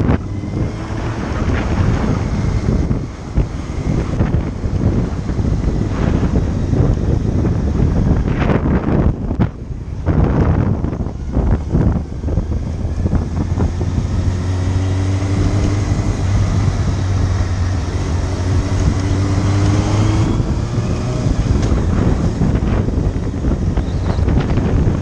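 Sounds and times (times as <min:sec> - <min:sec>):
motorcycle engine running: 0:00.0 - 0:25.0
wind noise on microphone: 0:00.0 - 0:25.0.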